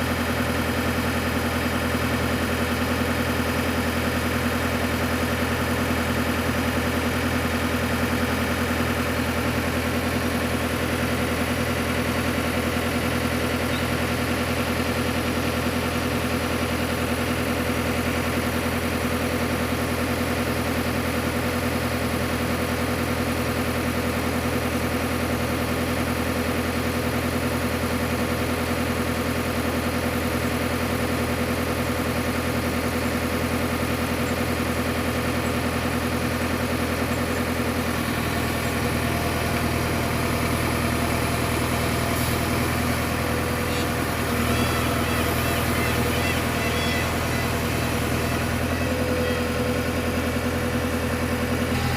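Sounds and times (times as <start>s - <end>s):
diesel engine idling: 0.0s - 51.9s.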